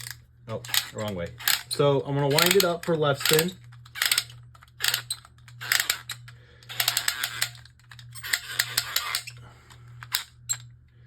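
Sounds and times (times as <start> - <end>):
ratcheting plastic clicks: 0.0 - 9.4.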